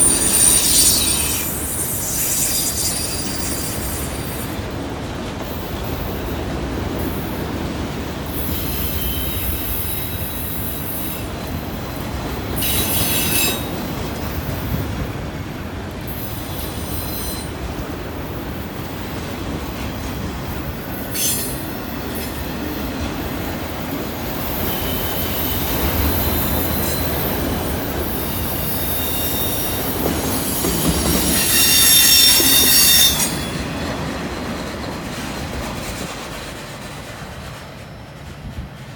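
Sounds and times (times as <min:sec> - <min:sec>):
train wheels squealing on rail: 0:00.0 - 0:38.9.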